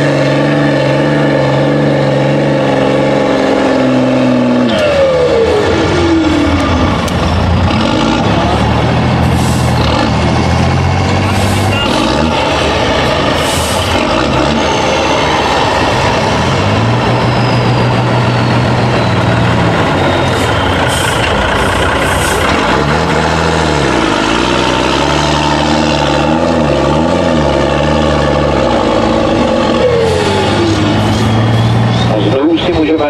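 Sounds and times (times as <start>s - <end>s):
truck diesel engine revving: 0.0s - 33.0s.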